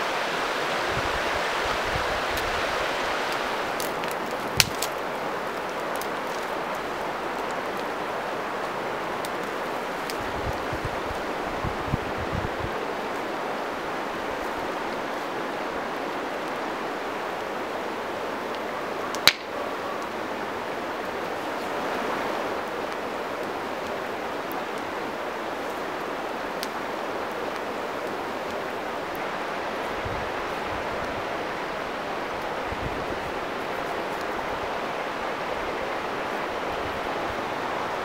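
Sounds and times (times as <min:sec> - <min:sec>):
flowing river water: 0:00.0 - 0:38.0.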